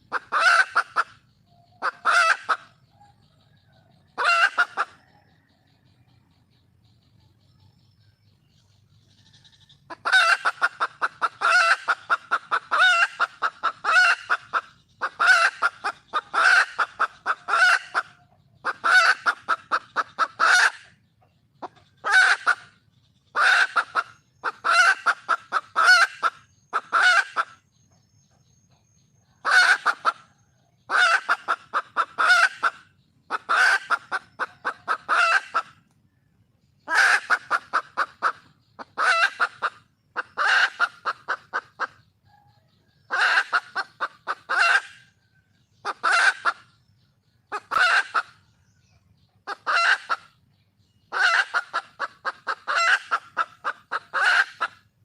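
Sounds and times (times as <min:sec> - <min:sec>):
hen clucking sharply: 0:00.0 - 0:03.0, 0:04.1 - 0:05.1, 0:09.7 - 0:27.6, 0:29.3 - 0:35.9, 0:36.8 - 0:45.2, 0:45.8 - 0:48.5, 0:49.2 - 0:50.4, 0:51.0 - 0:55.0.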